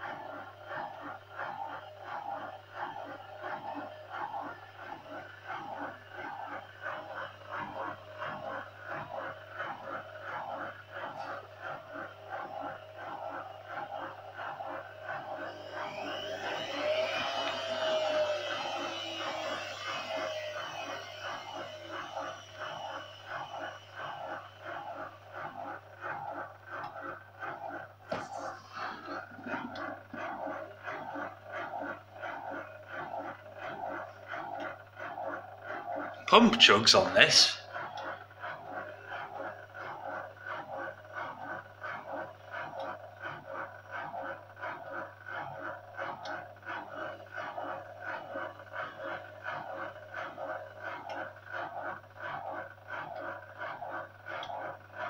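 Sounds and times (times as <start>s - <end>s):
steady low hum: 0.0s - 55.0s
washing machine drain pump chugging: 0.0s - 55.0s.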